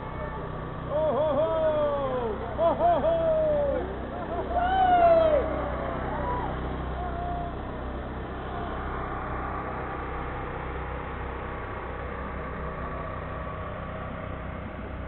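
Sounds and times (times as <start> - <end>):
motor vehicles rumbling: 0.0 - 15.0.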